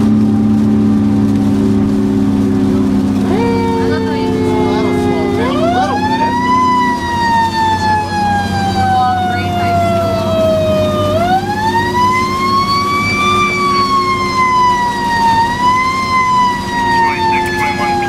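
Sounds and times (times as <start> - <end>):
fire engine siren wailing: 0.0 - 18.0
truck engine drone: 0.0 - 18.0.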